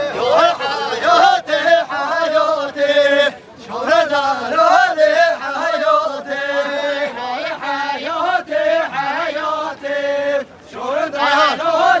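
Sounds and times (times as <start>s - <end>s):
men singing in unison: 0.0s - 12.0s.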